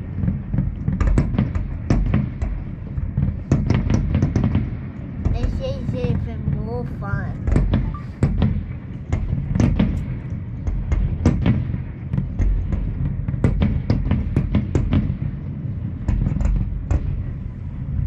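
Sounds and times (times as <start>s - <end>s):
fireworks bangs and crackles: 0.0s - 18.0s
low rumble: 0.0s - 18.0s.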